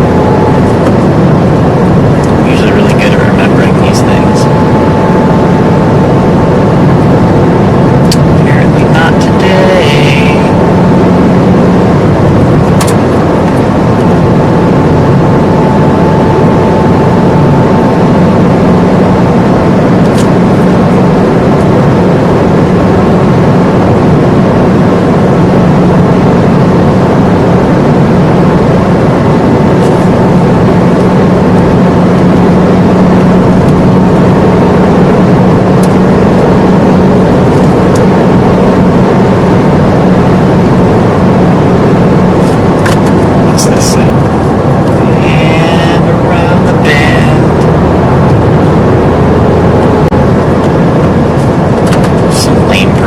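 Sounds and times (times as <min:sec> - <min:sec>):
car engine hum: 0:00.0 - 0:53.0.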